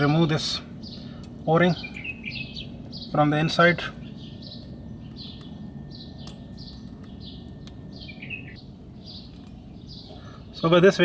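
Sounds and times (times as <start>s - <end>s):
low steady background noise: 0.0s - 11.0s
small birds chirping: 0.0s - 11.0s.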